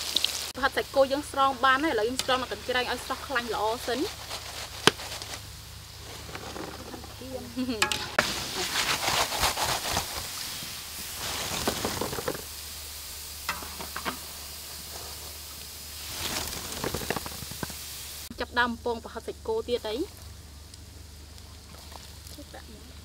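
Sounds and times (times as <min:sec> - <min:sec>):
hot oil sizzling and crackling: 0:00.0 - 0:23.0.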